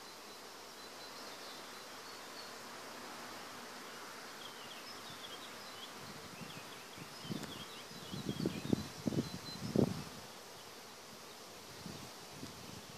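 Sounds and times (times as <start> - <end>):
honey bees humming: 0.0 - 12.9.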